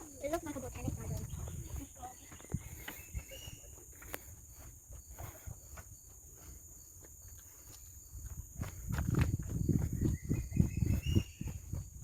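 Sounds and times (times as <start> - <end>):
footsteps on a trail: 0.0 - 12.0
insects droning: 0.0 - 12.0.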